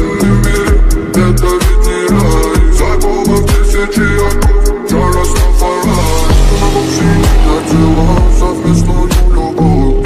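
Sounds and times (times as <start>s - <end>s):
background music with a beat: 0.0s - 10.0s
deep bass line: 0.0s - 10.0s.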